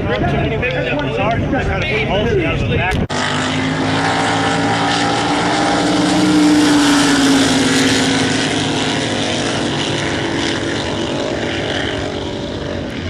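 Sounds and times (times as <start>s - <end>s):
boat engines at full throttle: 0.0s - 13.0s.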